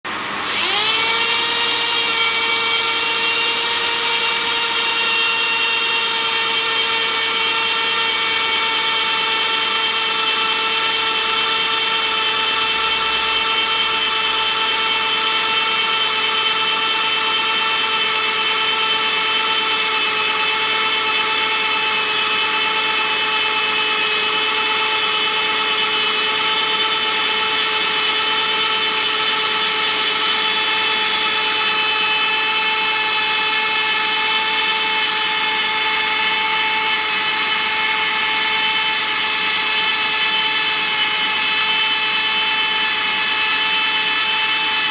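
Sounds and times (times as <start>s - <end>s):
plastic extruder motor whining: 0.1s - 44.9s.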